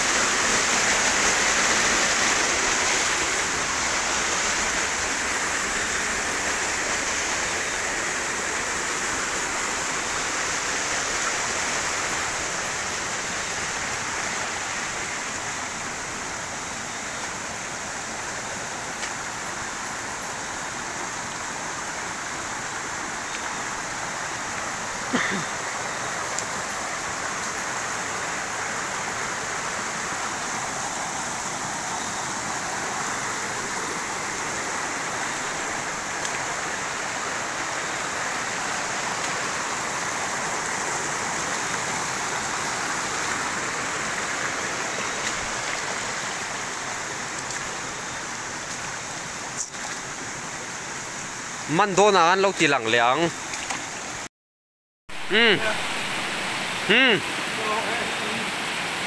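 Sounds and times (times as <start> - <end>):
water rushing over stones: 0.0 - 54.3, 55.1 - 59.0.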